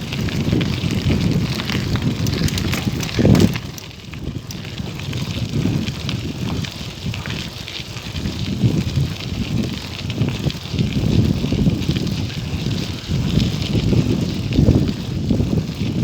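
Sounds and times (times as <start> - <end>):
light crackles: 0.0 - 15.1
wind buffeting microphone: 0.0 - 16.0.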